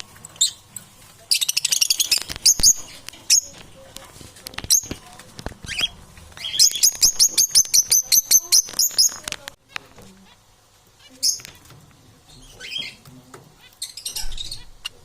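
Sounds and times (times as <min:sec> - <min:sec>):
parrots chattering: 0:00.2 - 0:15.0.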